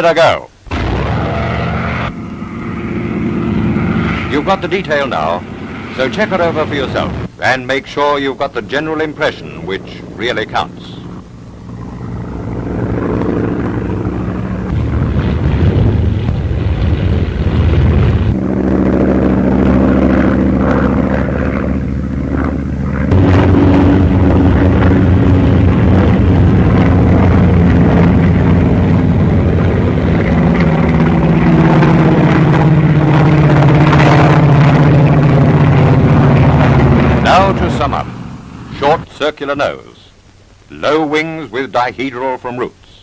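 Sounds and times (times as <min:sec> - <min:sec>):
propeller engine droning: 0:00.0 - 0:42.9.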